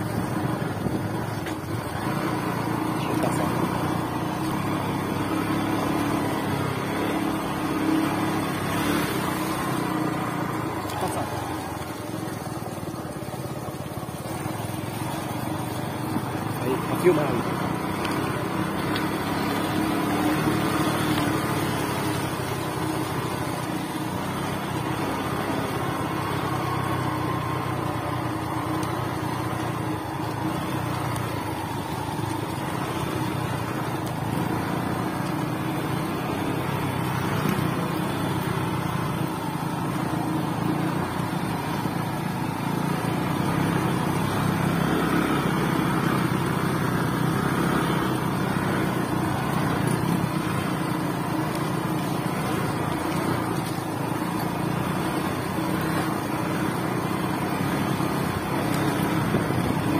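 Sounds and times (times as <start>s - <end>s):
small motorcycle engine running: 0.0s - 59.9s.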